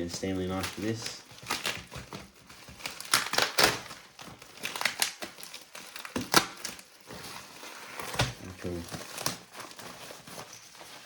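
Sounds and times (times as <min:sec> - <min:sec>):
packaging tearing and crinkling: 0:00.0 - 0:11.0.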